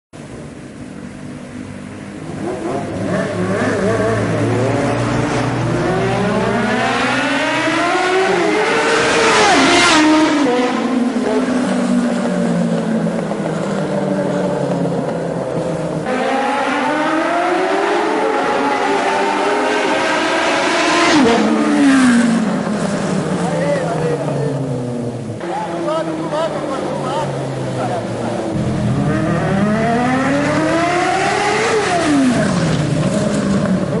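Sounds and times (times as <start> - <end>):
motorcycle engine revving: 2.2 - 15.2, 15.8 - 25.2, 27.3 - 34.0.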